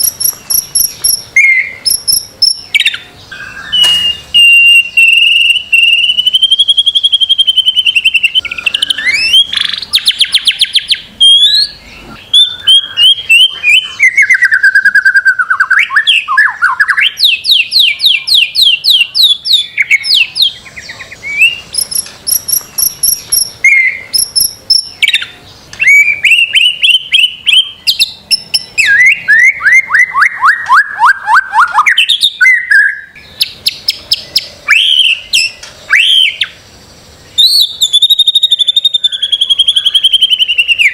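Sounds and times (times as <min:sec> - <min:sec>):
songbird whistling and trilling: 0:00.0 - 0:36.6, 0:37.2 - 0:40.9.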